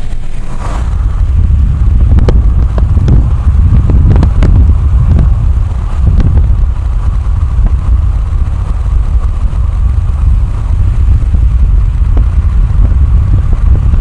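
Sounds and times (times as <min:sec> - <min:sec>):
car interior rumble: 0:00.0 - 0:14.0
faint steady hum: 0:00.0 - 0:14.0.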